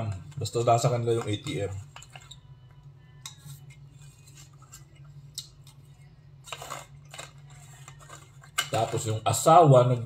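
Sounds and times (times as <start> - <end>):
plastic spoon on foil tray: 0.0 - 9.6.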